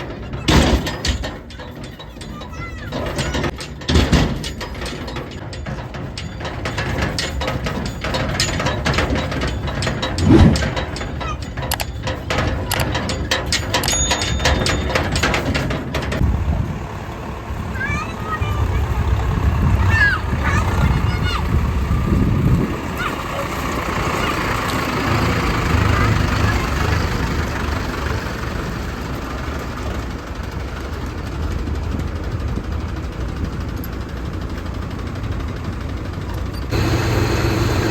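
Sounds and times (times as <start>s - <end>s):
combine harvester clattering: 0.0s - 37.9s
tractor diesel engine rumble: 0.0s - 37.9s.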